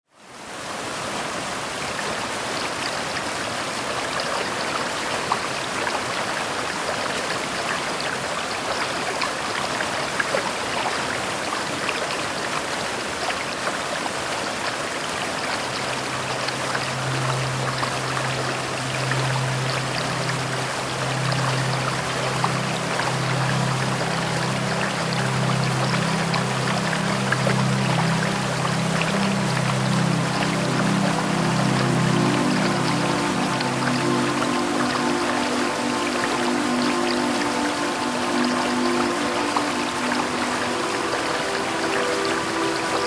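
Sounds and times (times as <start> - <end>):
steady rainfall: 0.1 - 43.0.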